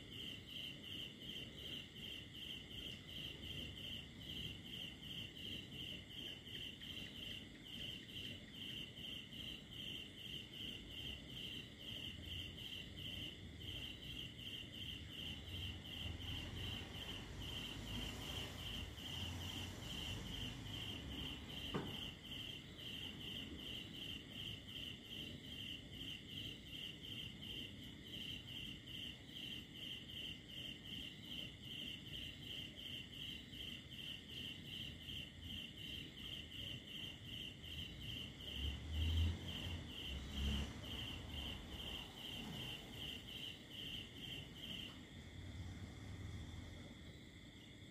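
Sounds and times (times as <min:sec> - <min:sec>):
crickets chirping: 0:00.0 - 0:47.9
high insect hum: 0:00.0 - 0:47.9.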